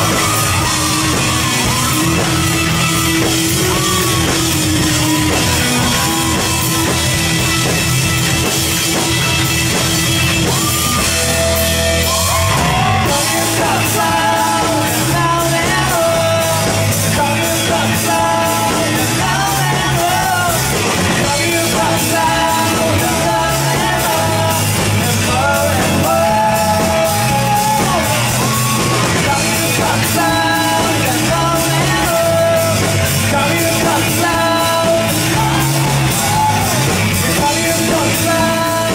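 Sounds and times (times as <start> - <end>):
person singing: 0.0 - 7.2, 12.0 - 38.9
drums with cymbal hits: 0.0 - 38.9
live rock band playing: 0.0 - 38.9.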